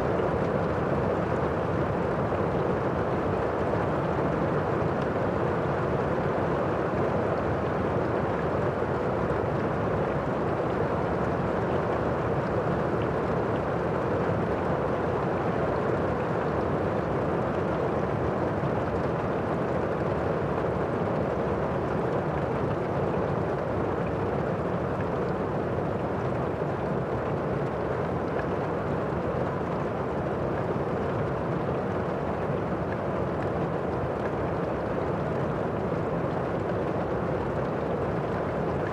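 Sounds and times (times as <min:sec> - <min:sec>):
muffled steady rain: 0:00.0 - 0:38.9.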